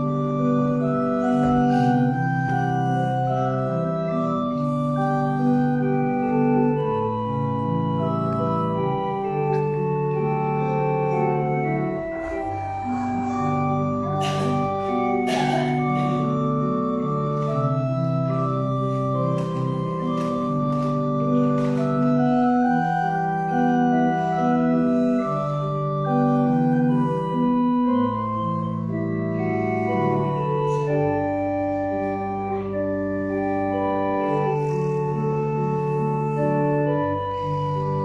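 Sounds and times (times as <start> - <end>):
church organ playing chords: 0.0 - 38.0.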